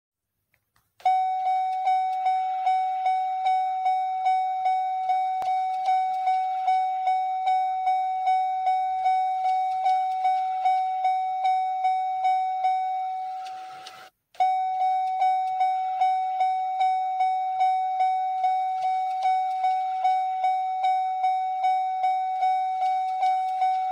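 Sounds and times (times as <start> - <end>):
vehicle door warning chime dings: 1.0 - 23.9.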